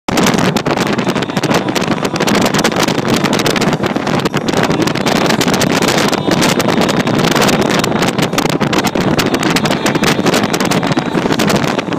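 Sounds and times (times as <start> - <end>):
wind buffeting microphone: 0.1 - 11.9.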